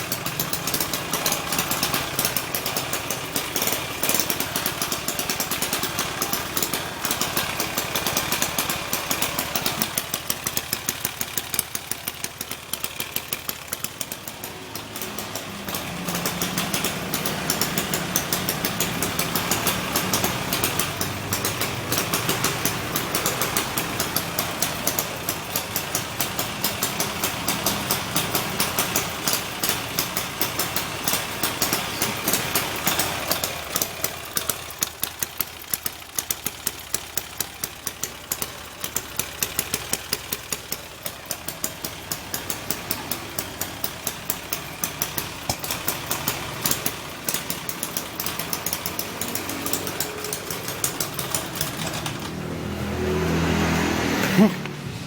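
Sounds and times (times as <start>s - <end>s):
regular ticking: 0.0s - 53.0s
scooter engine idling: 0.0s - 55.0s.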